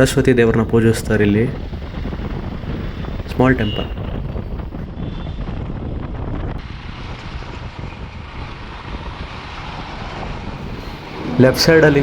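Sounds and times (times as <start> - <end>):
motorcycle engine and road noise: 0.0 - 12.0
wind buffeting microphone: 0.0 - 12.0.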